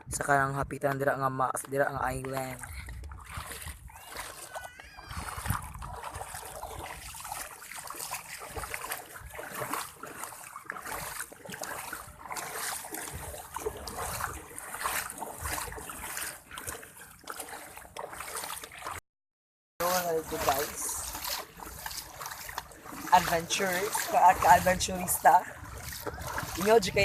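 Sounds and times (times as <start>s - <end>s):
water splashing and trickling: 0.0s - 19.0s, 19.8s - 27.0s
wading steps over rocks: 0.9s - 19.0s, 19.8s - 27.0s.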